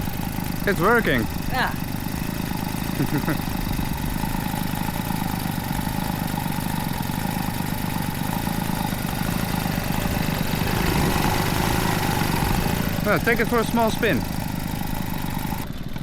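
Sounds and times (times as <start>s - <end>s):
moped engine idling: 0.0s - 16.0s.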